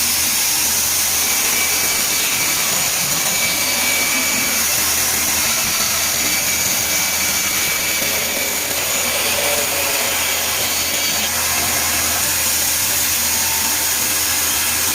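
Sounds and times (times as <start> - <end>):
electric workshop tool whirring: 0.0 - 14.9.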